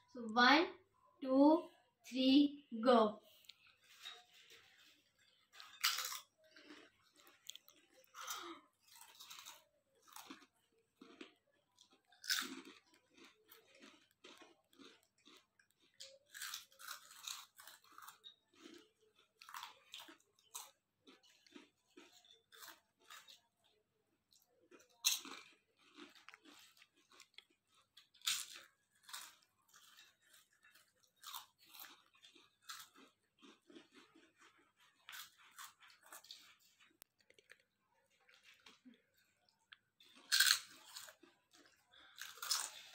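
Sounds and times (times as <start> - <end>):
children crunching potato chips: 3.2 - 42.9.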